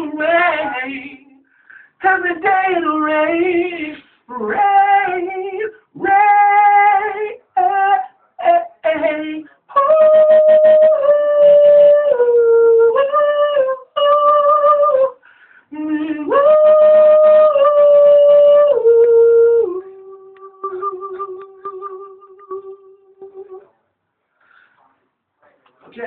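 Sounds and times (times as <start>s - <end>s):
man singing a cappella: 0.0s - 23.7s.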